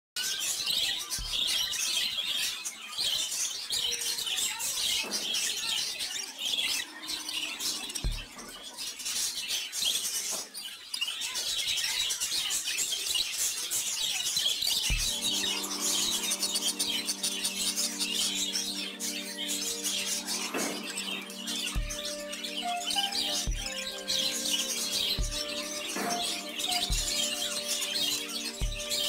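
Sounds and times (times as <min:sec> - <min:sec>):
budgerigars chirping: 0:00.2 - 0:29.0.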